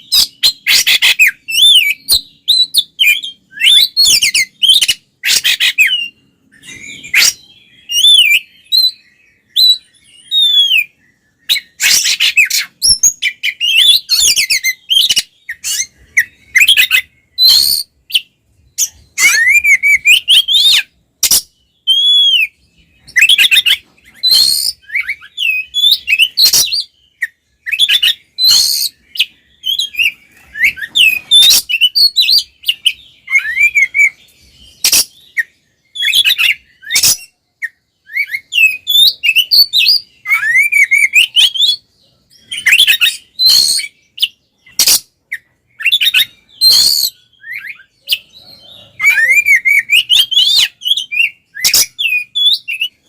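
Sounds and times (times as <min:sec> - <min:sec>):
bird singing whistles and chatter: 0:00.0 - 0:53.0.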